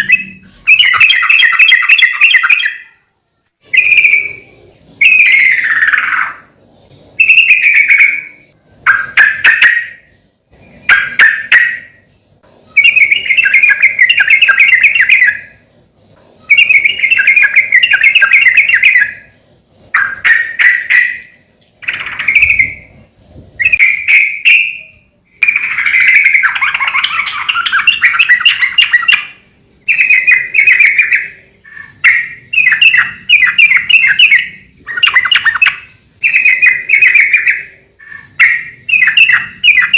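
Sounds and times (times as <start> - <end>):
bird singing warbling phrases: 0.0 - 3.0, 3.6 - 39.9.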